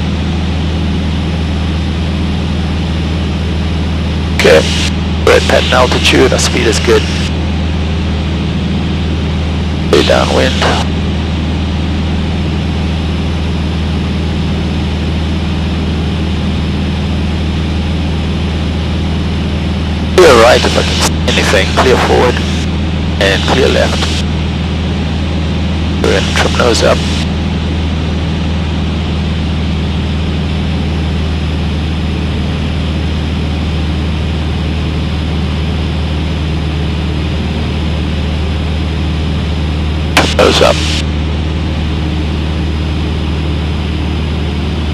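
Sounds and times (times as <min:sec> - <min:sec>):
aircraft engine and propeller drone: 0:00.0 - 0:44.9.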